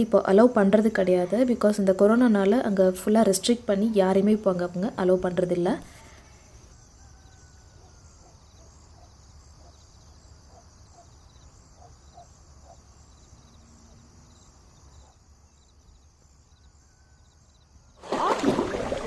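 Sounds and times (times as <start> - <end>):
pulsing chorus of insects: 0.0 - 19.0.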